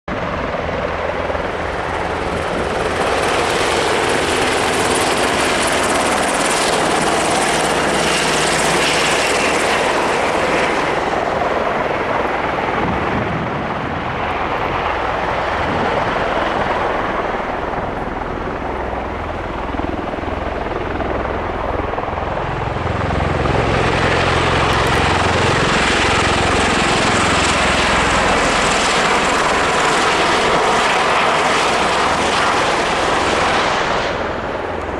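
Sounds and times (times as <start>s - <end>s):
rotor and turbine noise: 0.1s - 34.9s.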